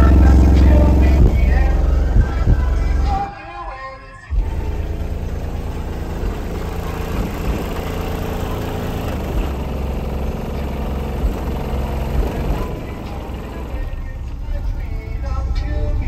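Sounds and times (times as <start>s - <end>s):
bass-heavy music on subwoofers: 0.0s - 16.0s.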